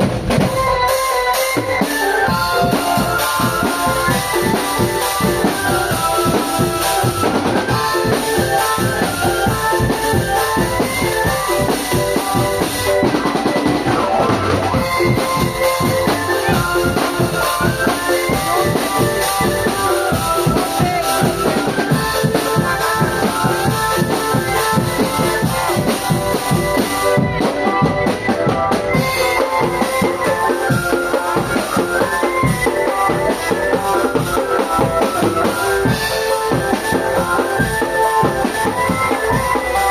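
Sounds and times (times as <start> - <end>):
bass drums beating: 0.0 - 39.9
pitched melody: 0.0 - 39.9
snare drums beating: 1.4 - 39.9.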